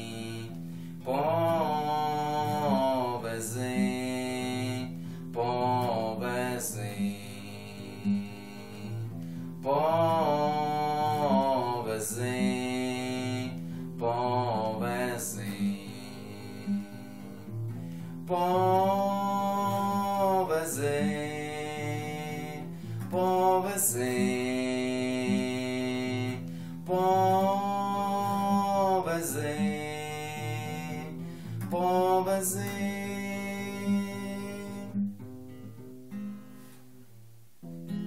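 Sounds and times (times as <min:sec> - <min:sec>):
man singing long notes: 0:00.0 - 0:17.6, 0:18.2 - 0:35.0
acoustic guitar strumming: 0:00.0 - 0:38.0.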